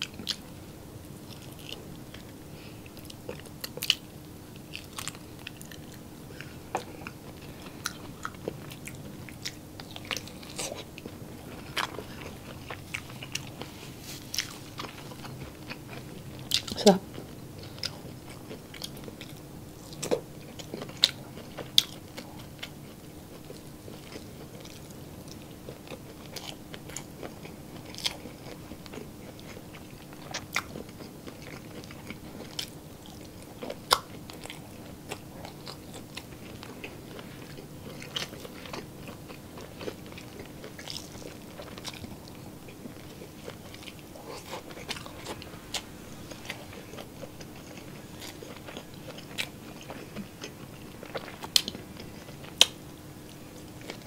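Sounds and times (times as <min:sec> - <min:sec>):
chewing and biting food: 0:00.0 - 0:00.6, 0:01.2 - 0:54.0
faint steady hum: 0:00.0 - 0:54.0.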